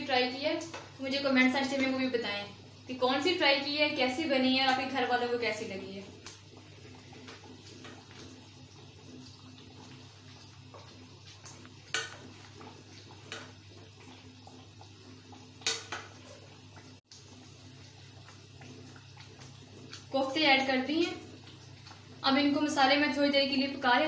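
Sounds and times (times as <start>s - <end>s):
gravy simmering in pot: 0.0s - 24.0s.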